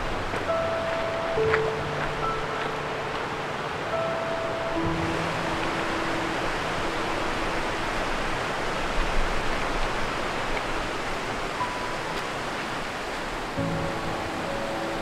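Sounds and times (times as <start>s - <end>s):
rushing mountain stream: 0.0s - 15.0s.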